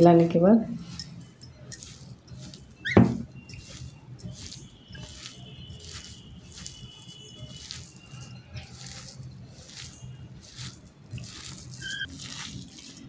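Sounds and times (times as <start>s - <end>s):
wet squishing of grated potato: 0.8s - 13.0s.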